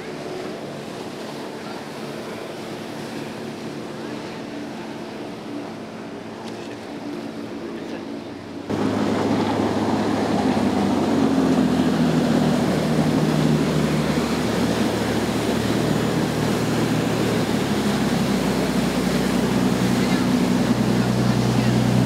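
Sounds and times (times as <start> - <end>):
boat engines droning: 0.0 - 22.0
hull rushing through water: 0.0 - 22.0.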